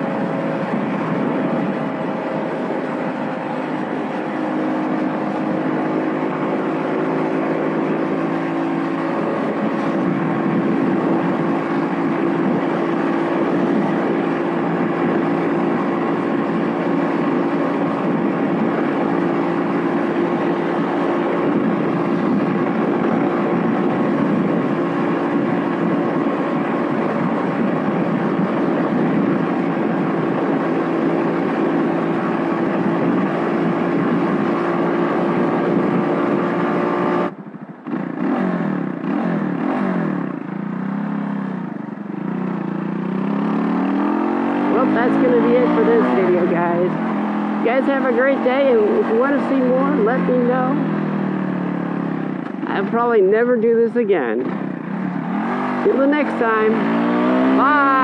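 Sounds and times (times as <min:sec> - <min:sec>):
motorcycle engine revving: 0:00.0 - 0:58.0
motorcycle engine running: 0:00.0 - 0:58.0.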